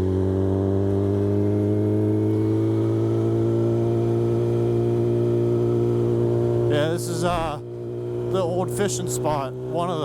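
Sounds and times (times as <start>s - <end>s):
motorcycle engine under load: 0.0s - 10.0s.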